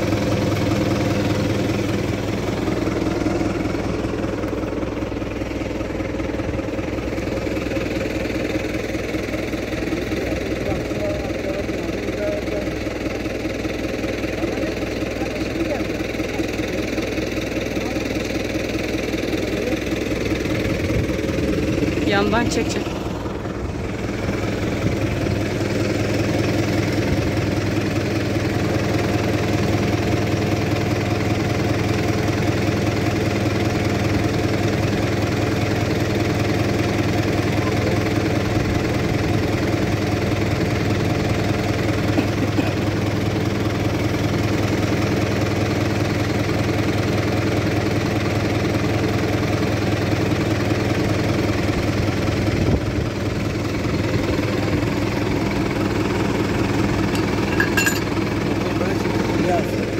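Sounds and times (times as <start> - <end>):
diesel tractor engine idling: 0.0 - 59.9.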